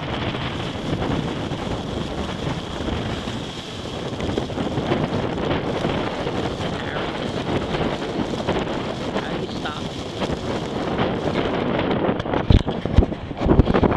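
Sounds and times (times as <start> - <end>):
strong wind buffeting microphone: 0.0 - 13.9.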